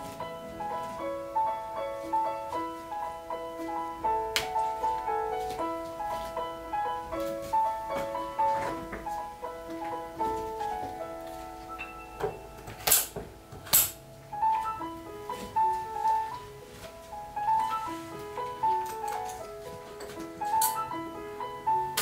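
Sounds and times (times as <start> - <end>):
gentle solo piano: 0.0 - 22.0.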